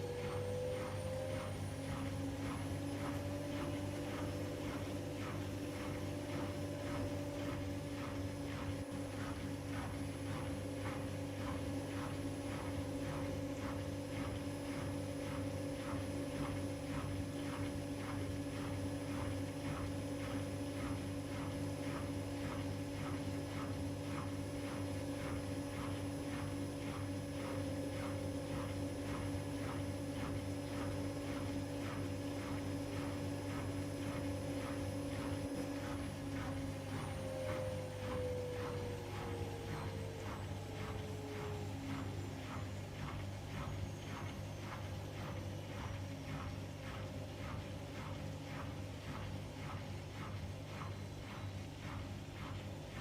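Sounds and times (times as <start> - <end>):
washing machine motor hum: 0.0 - 53.0.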